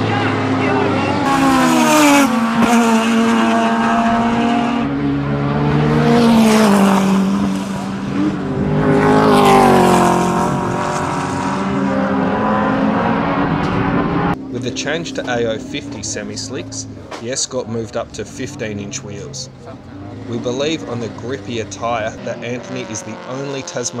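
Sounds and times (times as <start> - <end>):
race car engines at full throttle: 0.0 - 24.0.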